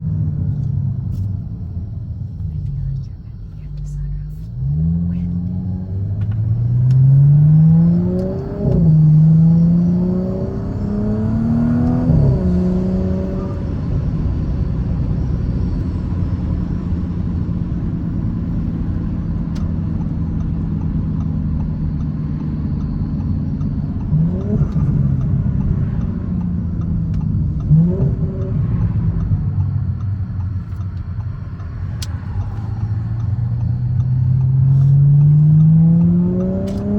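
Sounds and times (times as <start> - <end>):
car engine revving and idling: 0.0 - 36.9
exhaust crackling: 0.0 - 36.9.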